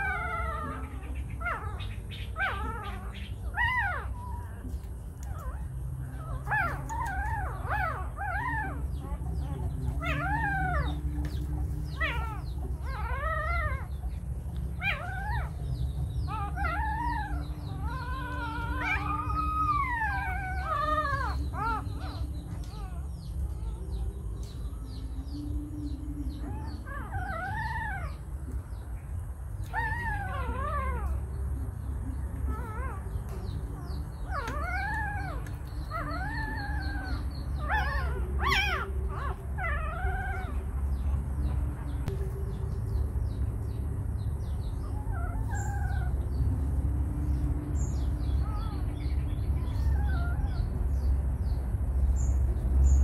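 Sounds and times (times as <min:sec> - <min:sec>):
low rumble: 0:00.0 - 0:53.0
puppies whimpering: 0:00.0 - 0:53.0.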